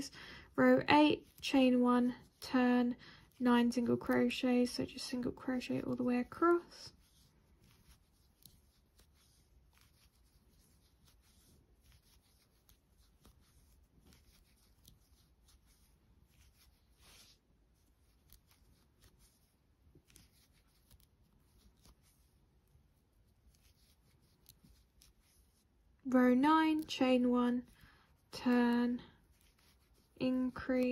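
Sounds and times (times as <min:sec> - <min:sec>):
crochet hook scratching yarn: 0:00.0 - 0:30.9.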